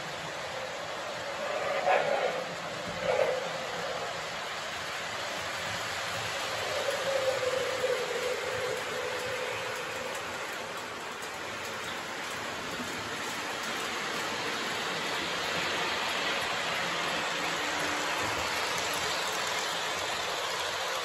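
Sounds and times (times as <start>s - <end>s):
model train rumbling on track: 0.0s - 21.0s.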